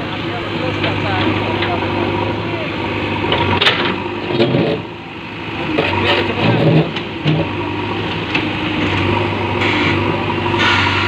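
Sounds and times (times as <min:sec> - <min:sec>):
diesel engine running hard: 0:00.0 - 0:11.0.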